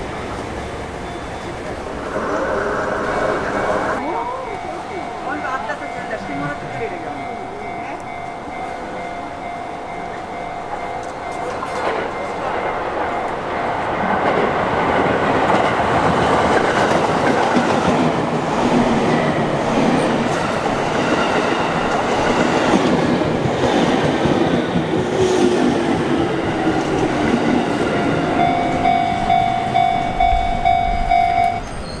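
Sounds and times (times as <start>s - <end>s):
electric train running past: 0.0s - 32.0s.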